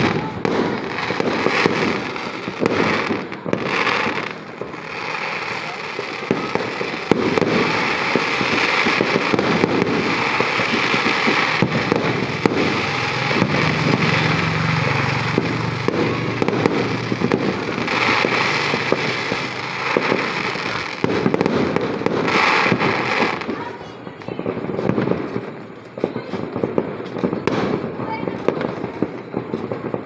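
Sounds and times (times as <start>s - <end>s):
fireworks popping and crackling: 0.0s - 30.0s.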